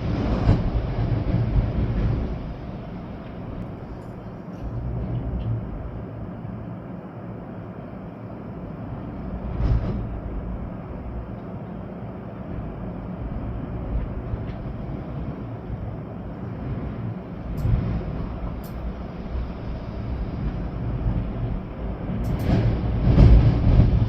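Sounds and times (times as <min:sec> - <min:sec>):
rain: 0:00.0 - 0:07.4, 0:08.0 - 0:24.0
storm wind through trees: 0:00.0 - 0:24.0.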